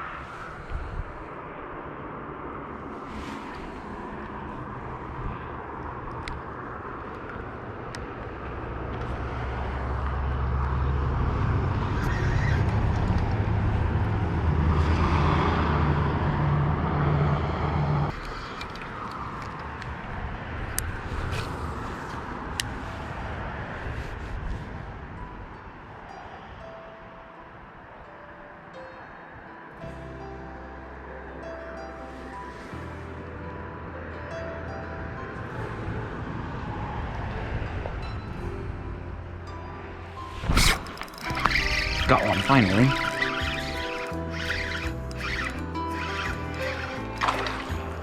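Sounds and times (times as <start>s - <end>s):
heavy vehicle engine hum: 0.0s - 48.0s
road traffic noise: 0.0s - 48.0s.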